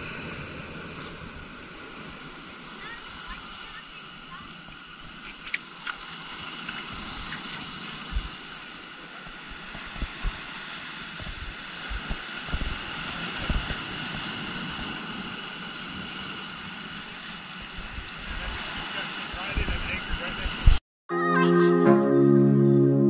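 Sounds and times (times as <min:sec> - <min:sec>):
wind buffeting microphone: 0:00.0 - 0:08.4, 0:09.2 - 0:20.8
surf breaking against rocks: 0:00.0 - 0:20.8.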